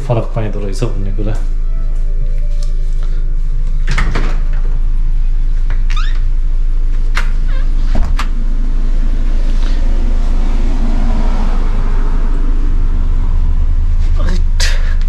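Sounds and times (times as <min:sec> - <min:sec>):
car engine running: 0:02.7 - 0:15.0.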